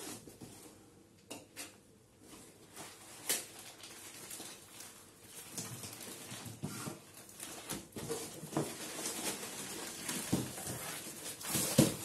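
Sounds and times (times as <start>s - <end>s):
parcel wrapping rustling: 2.2s - 12.0s.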